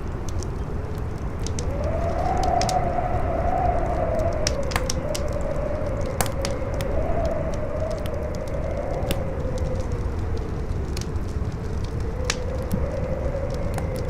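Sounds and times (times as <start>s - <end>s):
campfire crackling and popping: 0.0s - 14.0s
howling wind whistle: 0.0s - 14.0s.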